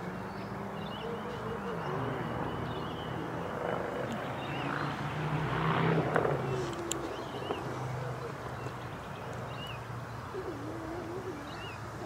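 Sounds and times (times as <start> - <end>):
low wavering hum: 0.0 - 11.7
small birds chirping: 0.0 - 12.0.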